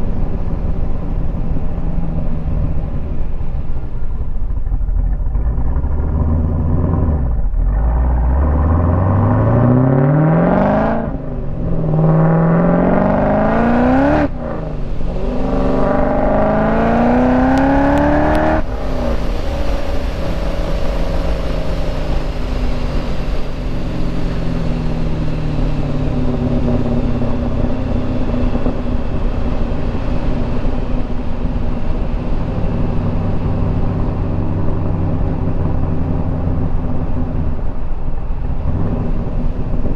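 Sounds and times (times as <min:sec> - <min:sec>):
car engine at full throttle: 0:00.0 - 0:39.9.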